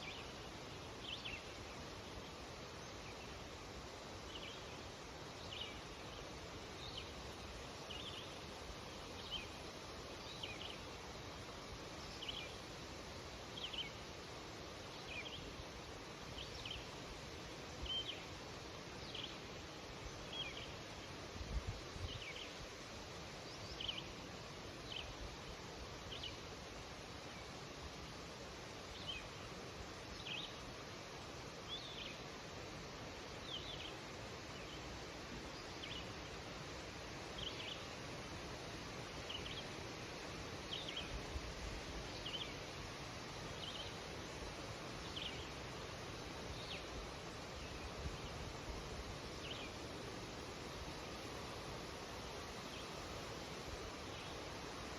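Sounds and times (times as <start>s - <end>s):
wind rustling through trees: 0.0s - 54.9s.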